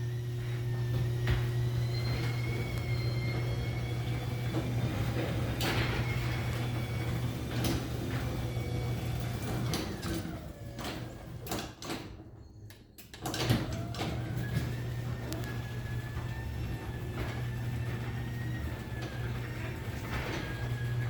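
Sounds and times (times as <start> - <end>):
garage door opener motor hum: 0.0 - 21.0.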